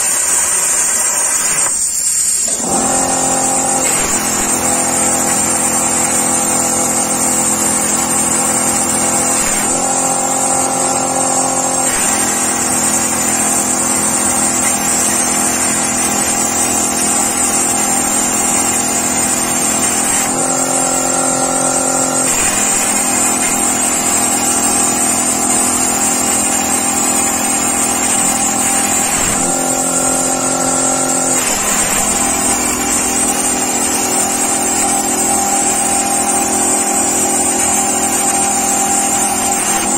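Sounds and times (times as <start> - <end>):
plasma cutter whining tones: 0.0 - 39.9.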